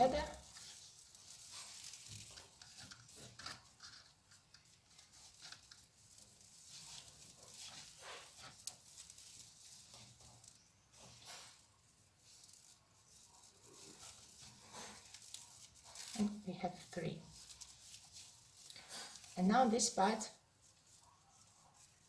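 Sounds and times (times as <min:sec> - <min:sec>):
yarn rustling with crochet hook: 0:00.0 - 0:22.0.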